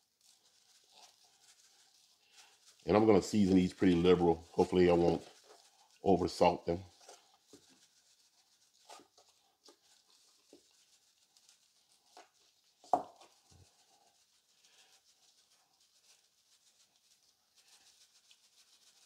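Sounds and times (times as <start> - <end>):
seasoning shaken from shaker: 0.0 - 19.0.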